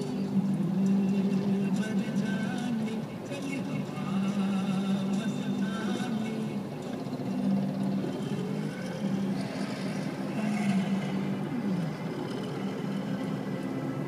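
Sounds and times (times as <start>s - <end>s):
road traffic engines passing: 0.0s - 14.0s.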